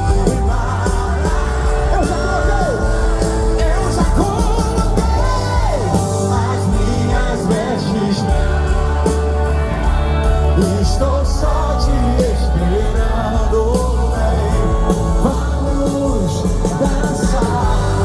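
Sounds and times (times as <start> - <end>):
gospel band playing: 0.0 - 18.0
person singing lead vocal: 0.0 - 18.0.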